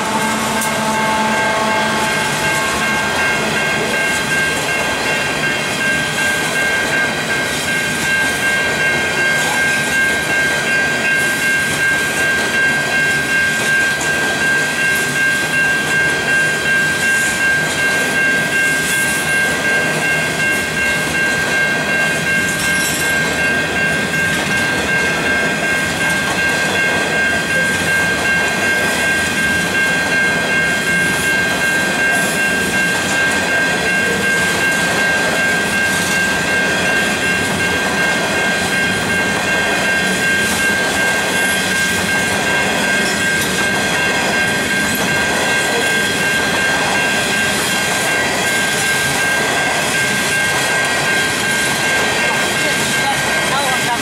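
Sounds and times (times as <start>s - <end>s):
steady high-pitched tone: 0.0s - 54.0s
train wheels rolling on rails: 0.0s - 54.0s.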